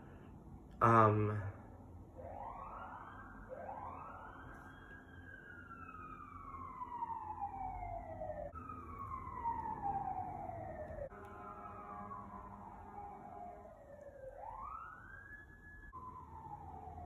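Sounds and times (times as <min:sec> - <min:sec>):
emergency vehicle siren wailing: 0:02.2 - 0:17.0.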